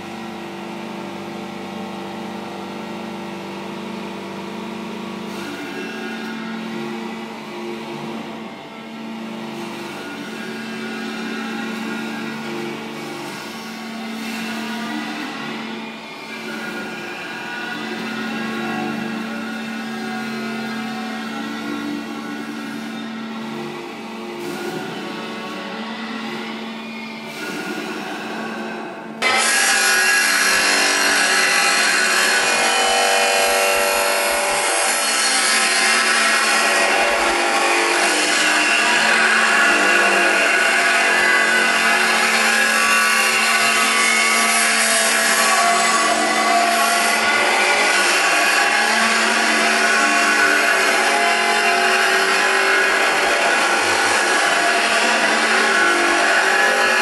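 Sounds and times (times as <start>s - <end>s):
grinder grinding metal: 5.0s - 57.0s.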